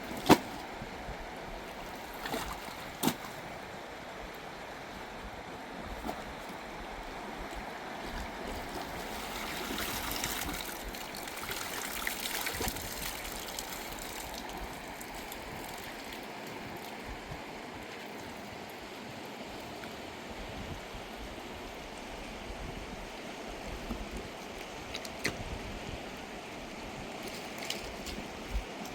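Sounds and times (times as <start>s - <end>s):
river running over stones: 0.0s - 28.9s.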